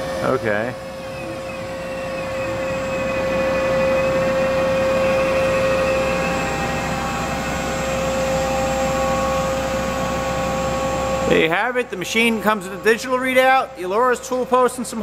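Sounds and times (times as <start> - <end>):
lathe spindle whining: 0.0 - 15.0.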